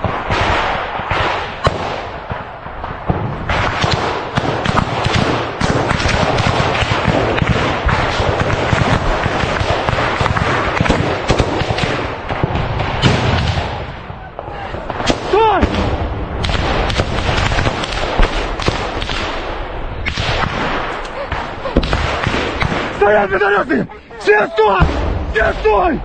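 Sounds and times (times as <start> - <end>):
small-arms gunfire: 0.0 - 14.0, 14.8 - 23.2.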